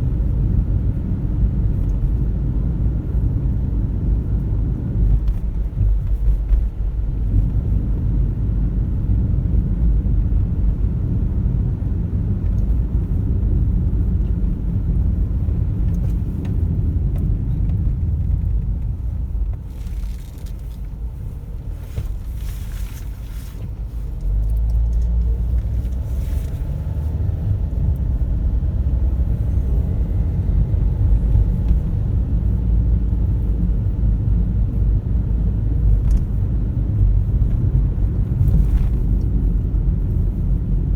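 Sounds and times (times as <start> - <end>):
car road and engine noise: 0.0 - 40.9.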